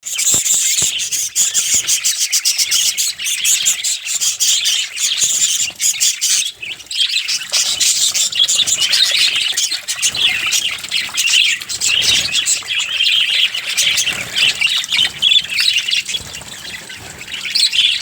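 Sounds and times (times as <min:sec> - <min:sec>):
parrots chattering and squawking: 0:00.0 - 0:18.0.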